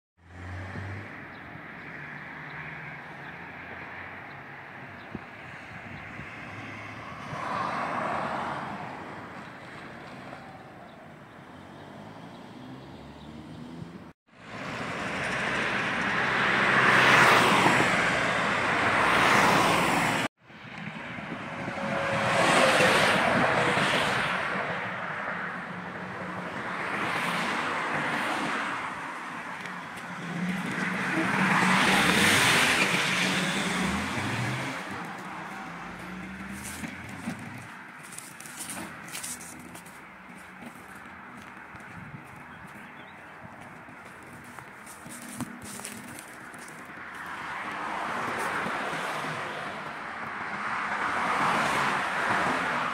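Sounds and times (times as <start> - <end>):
vehicles passing: 0.2 - 52.9.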